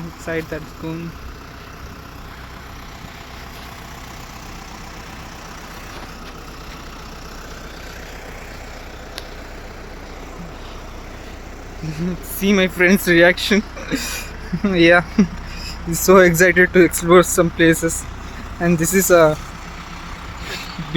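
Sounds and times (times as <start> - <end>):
low engine rumble: 0.0 - 20.9.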